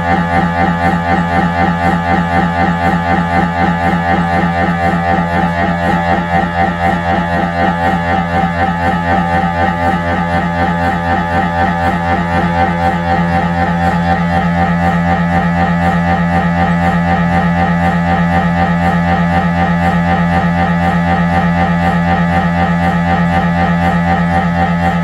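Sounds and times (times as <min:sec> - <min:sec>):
mri scanner pulsing buzz: 0:00.0 - 0:25.0.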